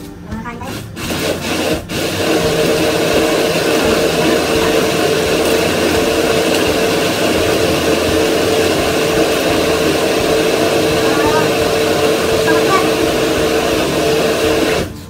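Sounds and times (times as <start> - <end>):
blender motor running: 0.6 - 15.0.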